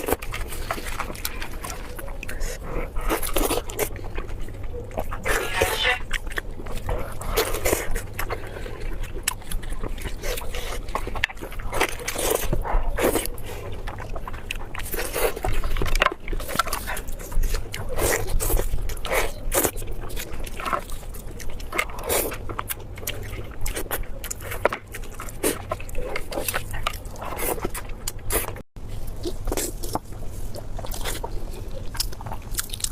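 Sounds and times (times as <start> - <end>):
person chewing food: 0.0 - 32.9.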